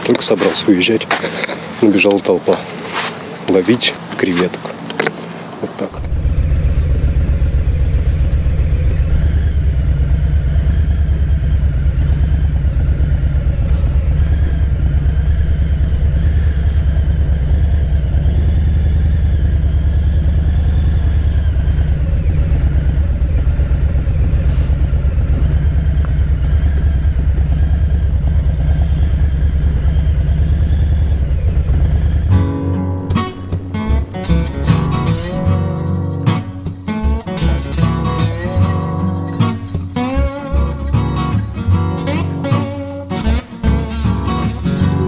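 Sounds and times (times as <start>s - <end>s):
motorcycle engine idling: 5.9s - 45.0s.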